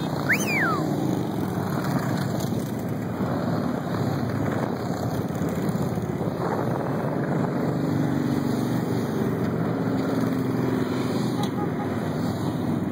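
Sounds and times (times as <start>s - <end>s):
motorcycles riding past: 0.0s - 12.9s.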